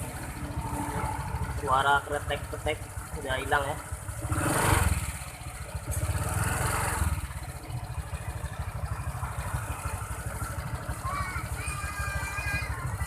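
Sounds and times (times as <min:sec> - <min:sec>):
scooter engine revving and idling: 0:00.0 - 0:13.0.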